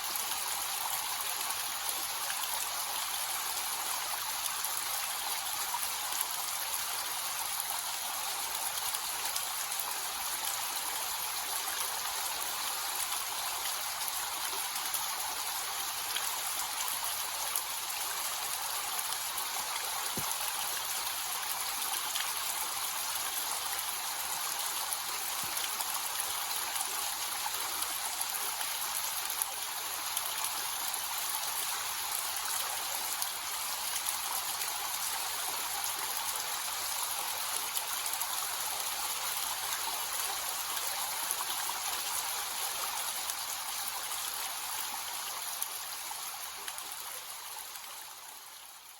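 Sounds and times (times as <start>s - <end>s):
small waterfall splashing: 0.0s - 48.9s.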